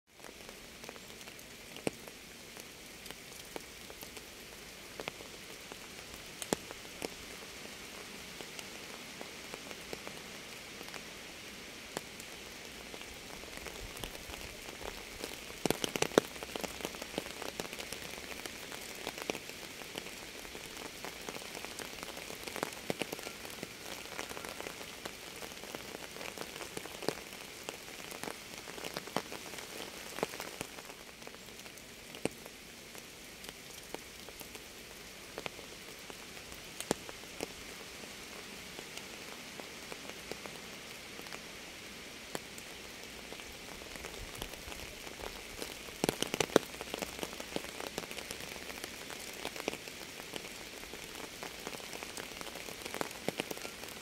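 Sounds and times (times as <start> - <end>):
rain hissing: 0.1 - 54.0.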